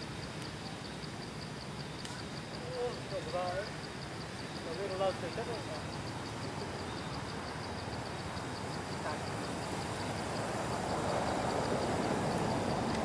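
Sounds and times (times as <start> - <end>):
steady outdoor rush: 0.0 - 13.0.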